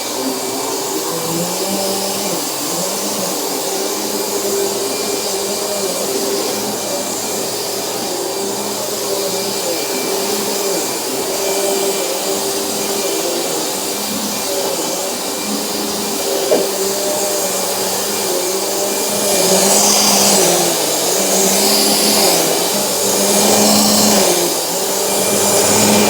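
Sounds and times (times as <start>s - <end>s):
vacuum cleaner motor humming: 0.0s - 26.0s.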